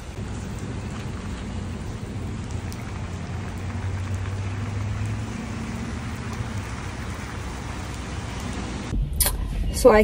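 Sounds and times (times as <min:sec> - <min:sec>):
car engine hum: 0:00.0 - 0:08.9
heavy rain on pavement: 0:00.0 - 0:08.9.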